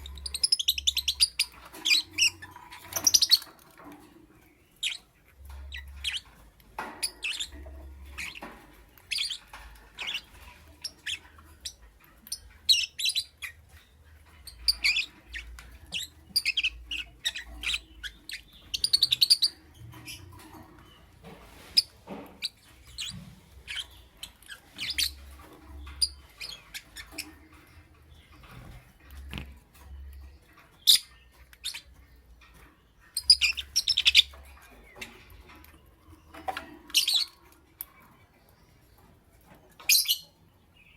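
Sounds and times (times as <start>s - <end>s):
lovebird chirping: 0.0s - 3.7s, 4.6s - 38.8s.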